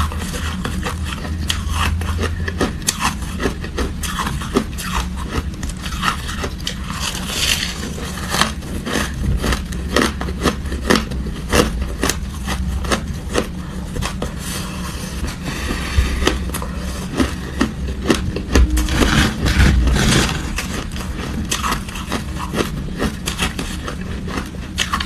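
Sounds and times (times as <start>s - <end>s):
ice being chewed: 0.0s - 25.0s
steady low hum: 0.0s - 25.0s.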